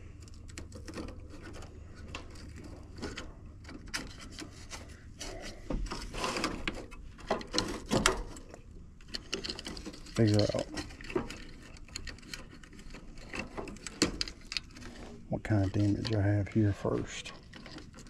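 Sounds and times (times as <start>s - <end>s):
hands handling wiring and parts: 0.0s - 18.0s.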